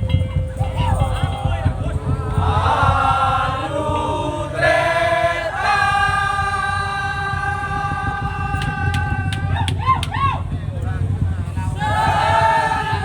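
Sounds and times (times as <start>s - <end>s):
drum and percussion pounding: 0.0s - 13.0s.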